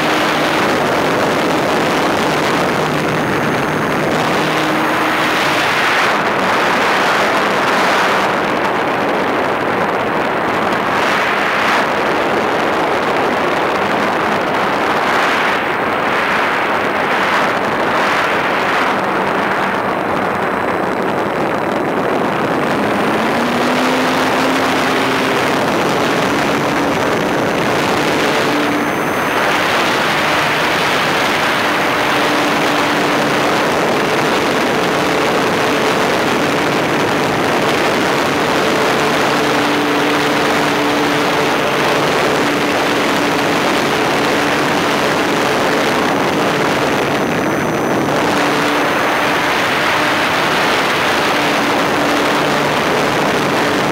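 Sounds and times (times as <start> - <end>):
air rushing over microphone: 0.0 - 53.9
faint electric motor and propeller hum: 0.0 - 53.9.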